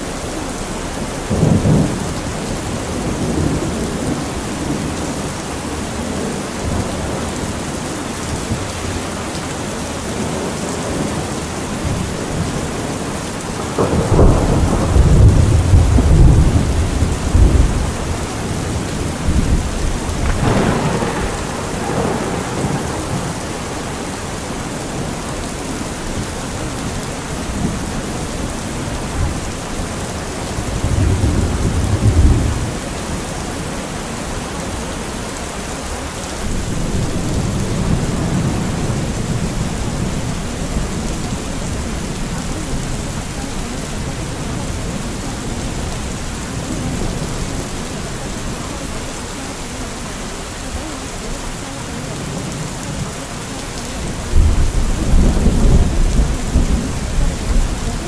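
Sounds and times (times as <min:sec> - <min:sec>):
steady rain: 0:00.0 - 0:58.0
rolling thunder: 0:00.3 - 0:09.4, 0:10.2 - 0:34.7, 0:36.3 - 0:49.3, 0:53.9 - 0:58.0.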